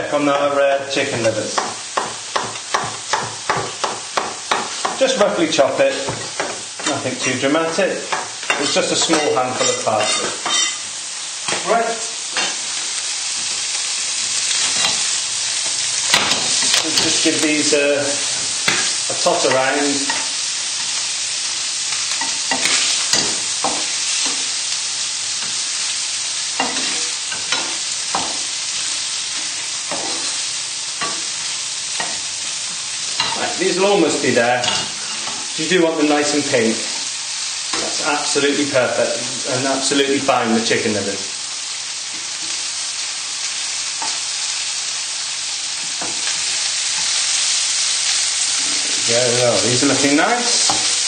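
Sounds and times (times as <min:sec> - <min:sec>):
livers sizzling in butter: 0:00.0 - 0:51.0.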